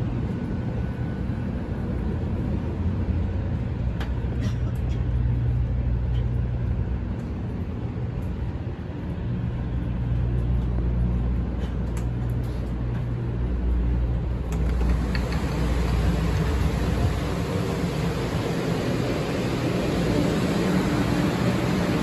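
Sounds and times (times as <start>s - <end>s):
train rumble inside car: 0.0s - 22.0s.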